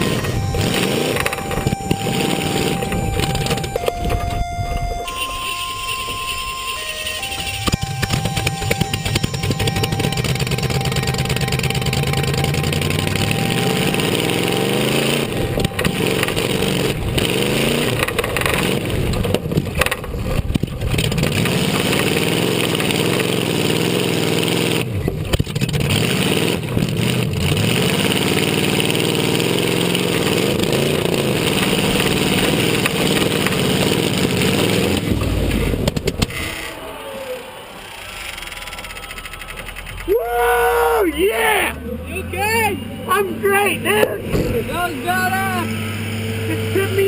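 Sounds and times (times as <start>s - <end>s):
truck engine revving: 0.0s - 47.0s.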